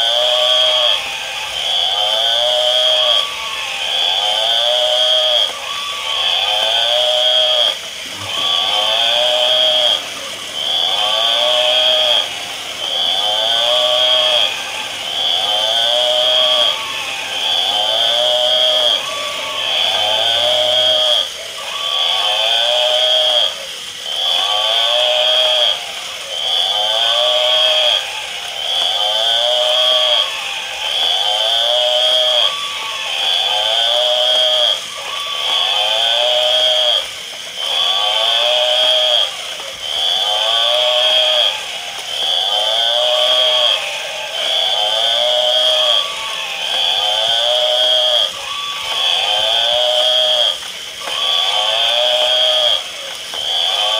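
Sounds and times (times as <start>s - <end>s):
electronic animal call: 0.0s - 53.9s
steady high electronic tone: 0.0s - 53.9s.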